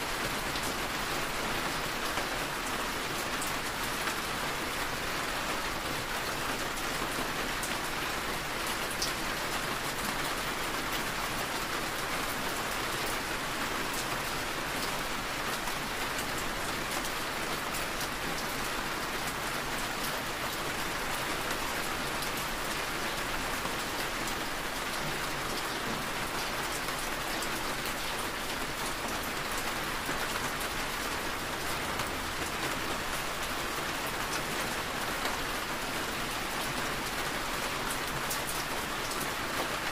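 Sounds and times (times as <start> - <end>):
rain on a moving car: 0.0 - 39.9.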